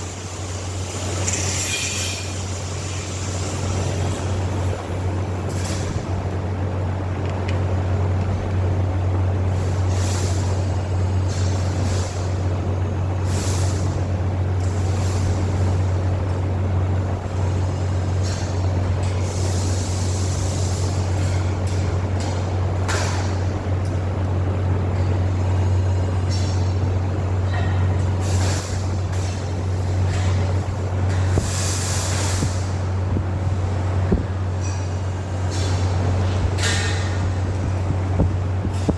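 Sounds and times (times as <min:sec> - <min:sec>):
broad running noise: 0:00.0 - 0:38.9
low machine hum: 0:00.0 - 0:38.9.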